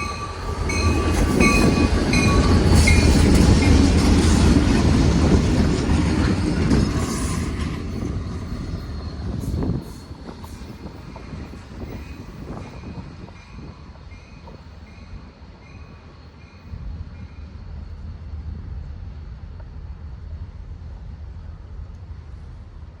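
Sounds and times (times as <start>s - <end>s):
train rolling past: 0.0s - 23.0s.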